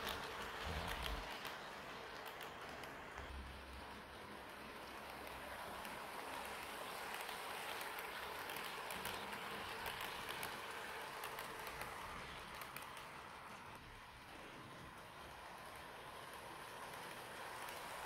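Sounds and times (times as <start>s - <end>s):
model train wheels rattling: 0.0s - 18.0s
small motor: 0.0s - 18.0s.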